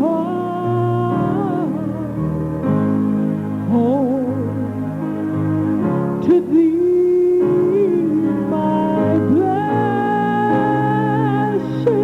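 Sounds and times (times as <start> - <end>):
person singing: 0.0 - 5.3, 6.2 - 12.0
held keyboard chords: 0.0 - 12.0.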